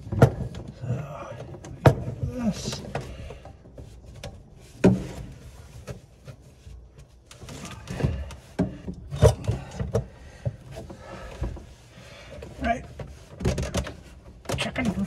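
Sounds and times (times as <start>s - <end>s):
plastic pipe knocking and rubbing: 0.0s - 15.0s.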